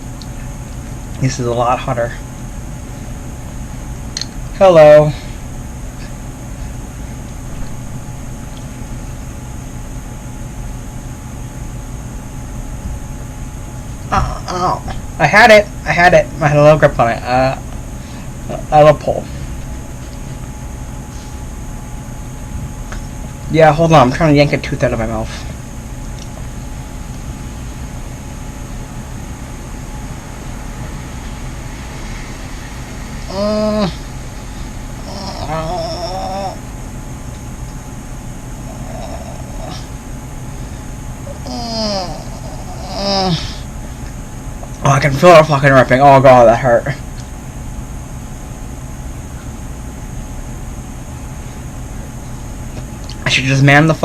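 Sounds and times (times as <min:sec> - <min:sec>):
low machine hum with hiss: 0:00.0 - 0:54.0.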